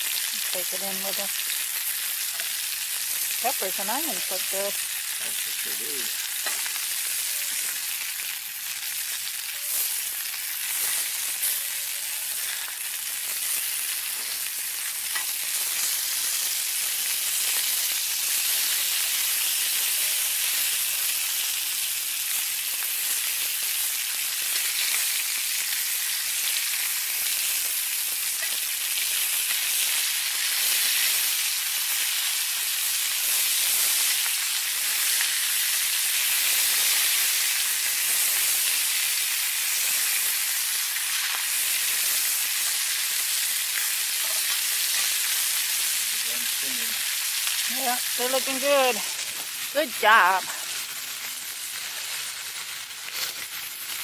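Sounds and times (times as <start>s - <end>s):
sausages sizzling in a skillet: 0.0s - 54.0s.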